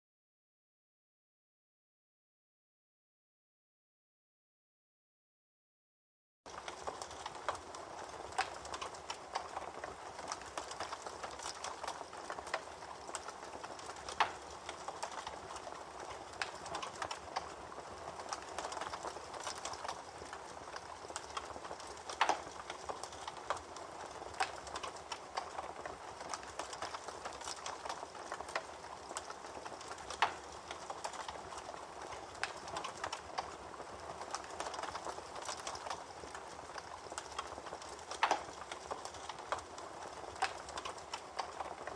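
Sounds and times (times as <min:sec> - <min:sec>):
campfire crackling and popping: 0:06.5 - 0:41.9
loud fire snaps: 0:06.5 - 0:41.9.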